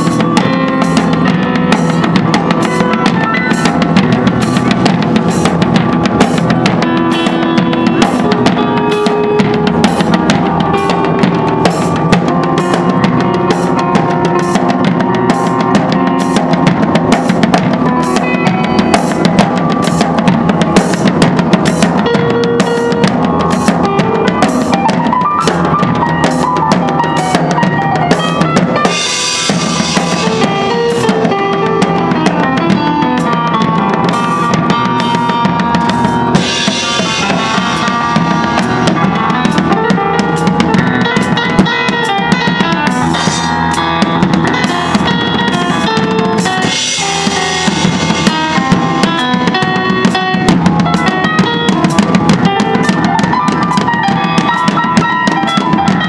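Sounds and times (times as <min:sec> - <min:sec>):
drum kit beat: 0:00.0 - 0:56.0
electronic keyboard melody: 0:00.0 - 0:56.0.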